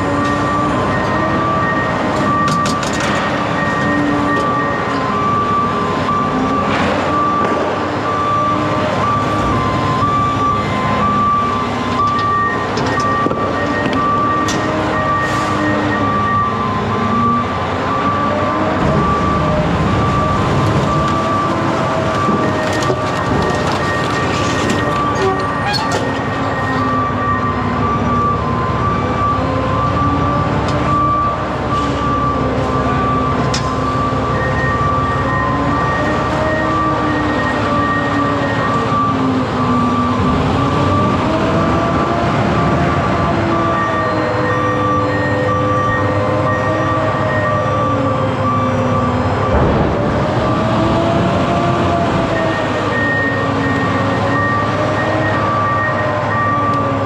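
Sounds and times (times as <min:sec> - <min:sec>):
truck road noise: 0:00.0 - 0:57.0.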